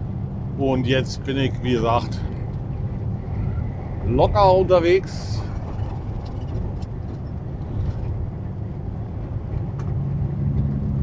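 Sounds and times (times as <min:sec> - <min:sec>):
diesel engine drone: 0:00.0 - 0:11.0
road noise: 0:00.0 - 0:11.0.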